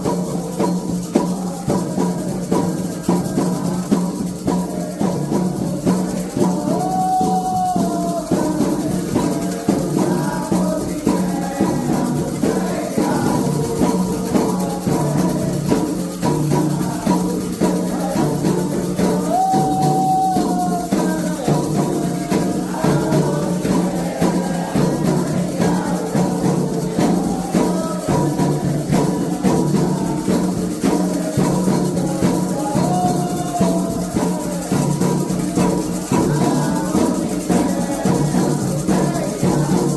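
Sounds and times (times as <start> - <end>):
rattling shakers: 0.0 - 39.9.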